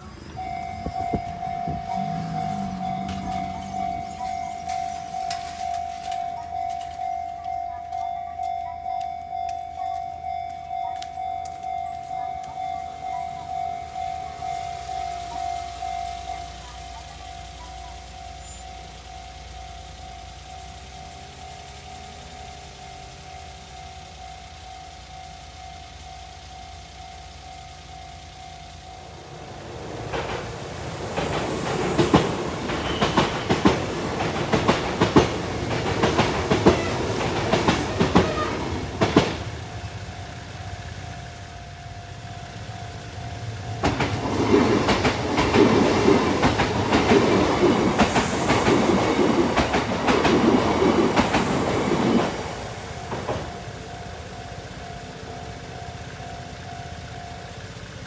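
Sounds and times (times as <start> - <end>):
wheels clattering over rail joints: 0.0 - 18.7, 29.0 - 57.2
level crossing warning bell: 0.0 - 58.0.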